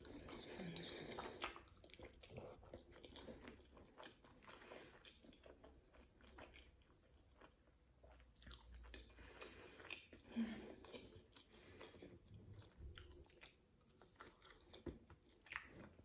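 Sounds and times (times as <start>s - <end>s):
person chewing with mouth clicks: 0.0s - 16.0s.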